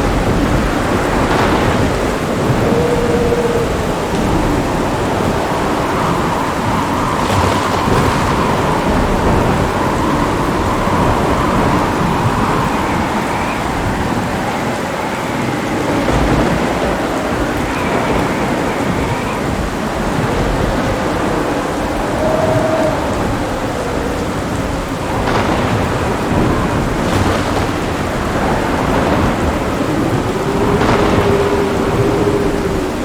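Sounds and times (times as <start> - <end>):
heavy rain falling: 0.0 - 33.0
thunder rumbling: 0.0 - 33.0.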